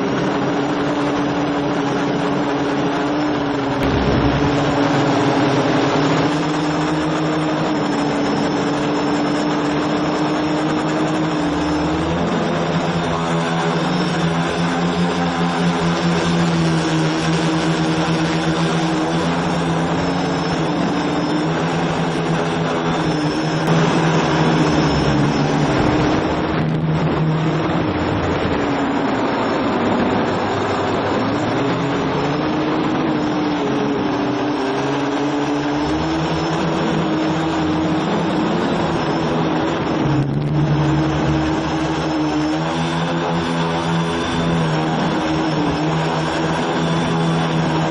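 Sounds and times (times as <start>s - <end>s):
quadcopter motors buzzing: 0.0s - 47.9s.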